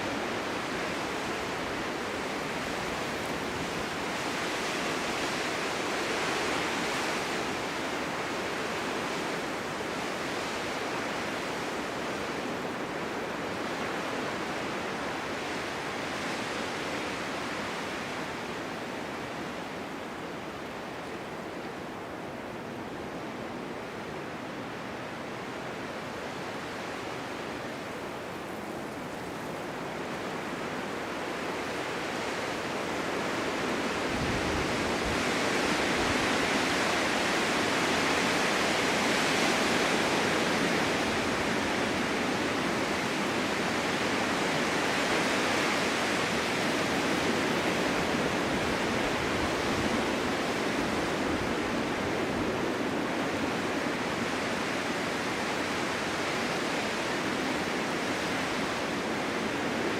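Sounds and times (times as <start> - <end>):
snowstorm wind blowing: 0.0 - 59.9.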